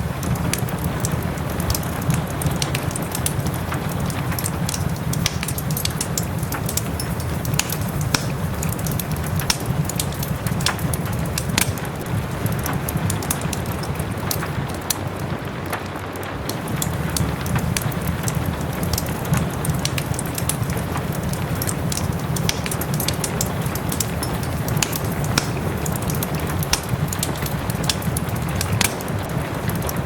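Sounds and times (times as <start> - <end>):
soft rain: 0.0 - 30.0
wood fire crackling and popping: 0.0 - 30.0.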